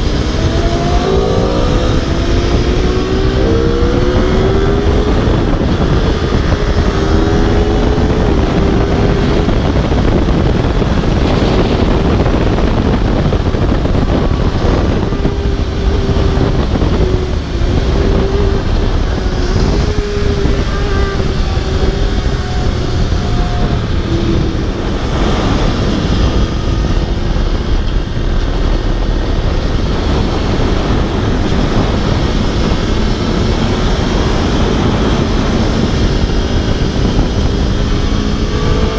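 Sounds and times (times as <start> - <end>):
motorcycle engine at speed: 0.0 - 38.9
wind rush on microphone: 0.0 - 38.9.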